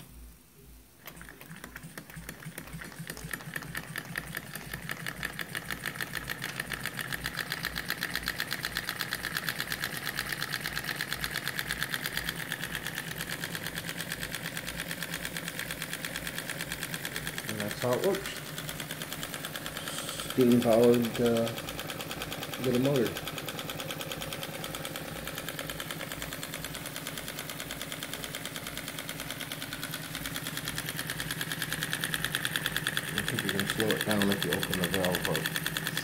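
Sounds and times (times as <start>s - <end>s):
toy steam engine chuffing: 1.0s - 36.0s.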